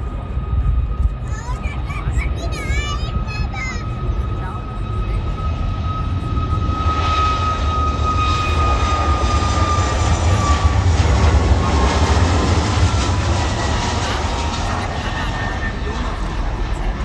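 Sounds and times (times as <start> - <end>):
high jet whine: 0.0 - 17.0
jet airliner passing: 0.0 - 17.0.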